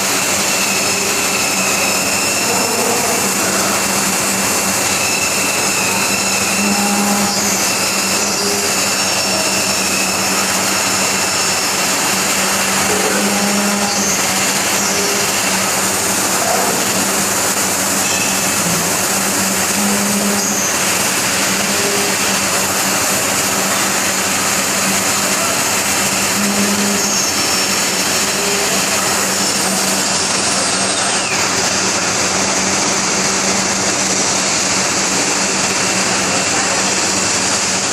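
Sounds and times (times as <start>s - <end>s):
machining center rushing noise: 0.0s - 37.9s
thin high whine: 0.0s - 37.9s.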